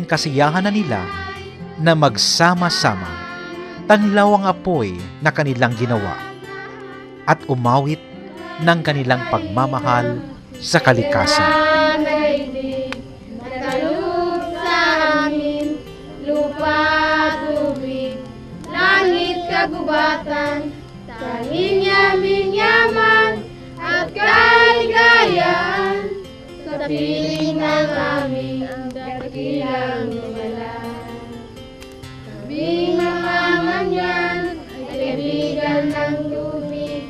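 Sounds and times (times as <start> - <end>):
group singing with children: 0.0 - 31.6, 32.2 - 37.0.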